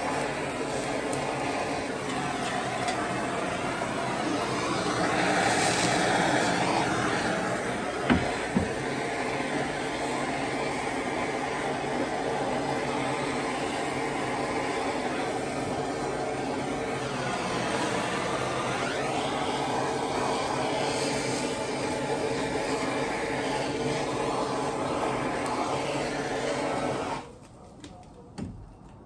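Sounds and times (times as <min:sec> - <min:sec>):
blowtorch flame hissing: 0:00.0 - 0:27.5.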